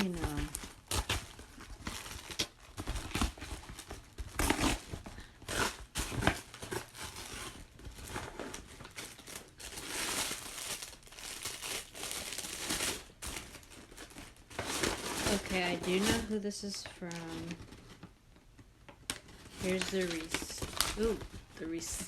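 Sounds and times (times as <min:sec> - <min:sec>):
packaging tearing and crinkling: 0:00.0 - 0:16.4, 0:17.1 - 0:18.1, 0:19.0 - 0:22.0.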